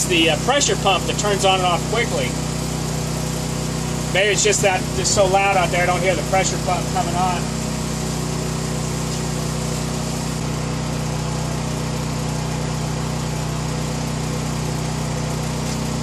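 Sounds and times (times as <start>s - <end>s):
generator engine hum: 0.0s - 16.0s.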